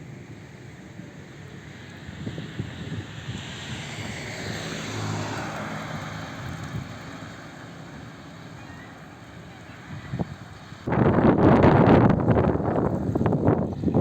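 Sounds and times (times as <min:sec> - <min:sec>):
vehicle passing by: 0:01.4 - 0:14.0.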